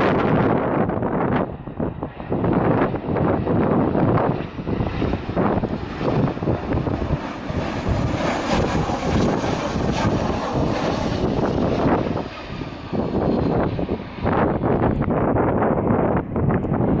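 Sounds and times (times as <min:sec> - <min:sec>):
aircraft engines passing: 0:00.0 - 0:17.0
wind buffeting microphone: 0:00.0 - 0:17.0.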